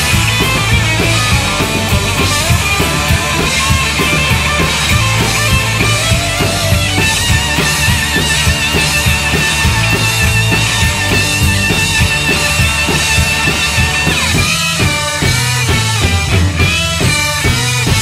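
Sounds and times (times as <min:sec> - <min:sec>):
drum kit beat: 0:00.0 - 0:18.0
electric guitars: 0:00.0 - 0:18.0.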